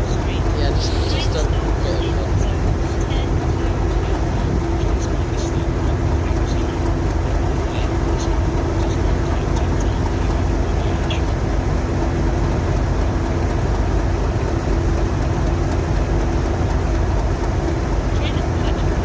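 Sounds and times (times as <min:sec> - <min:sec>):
diesel train engine idling: 0:00.0 - 0:19.0.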